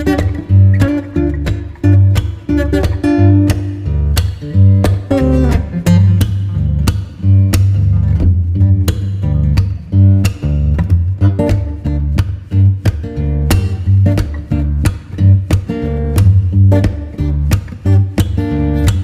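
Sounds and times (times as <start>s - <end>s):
acoustic guitar strumming: 0.0s - 19.0s
steady bass: 0.0s - 19.0s.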